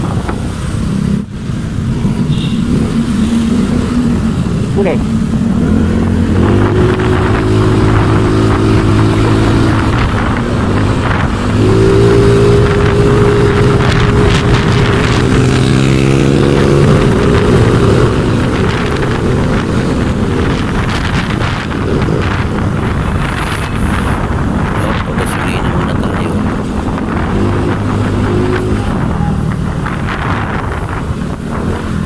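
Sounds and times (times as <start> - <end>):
wind rush on microphone: 0.0 - 32.0.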